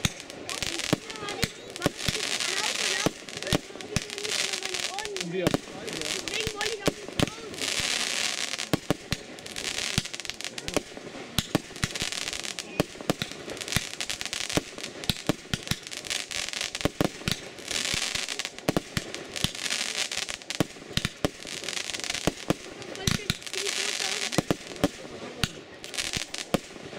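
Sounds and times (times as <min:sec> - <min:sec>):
firework shells bursting with bangs: 0:00.0 - 0:26.9
hissing crackle of fireworks: 0:00.0 - 0:26.9.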